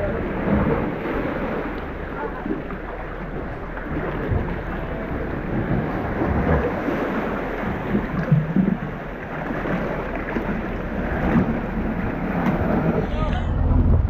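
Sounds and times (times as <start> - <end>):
low rumble: 0.0 - 14.0
water rushing: 0.0 - 14.0.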